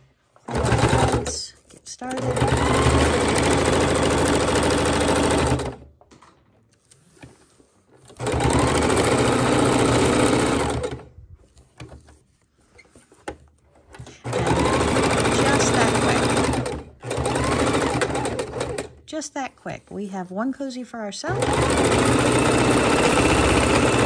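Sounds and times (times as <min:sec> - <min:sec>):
sewing machine stitching: 0:00.0 - 0:06.0, 0:06.8 - 0:20.2, 0:21.2 - 0:24.0.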